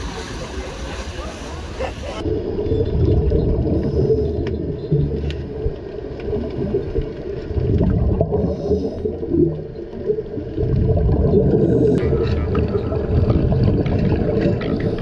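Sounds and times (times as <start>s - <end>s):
muffled underwater rumble: 0.0s - 15.0s
regulator bubbles gurgling: 1.5s - 15.0s.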